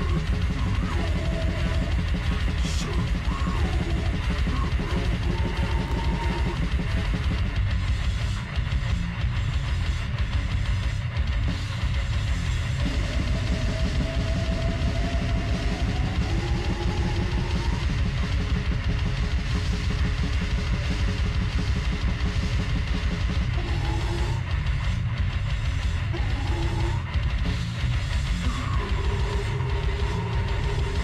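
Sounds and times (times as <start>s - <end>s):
death metal music: 0.0s - 31.0s.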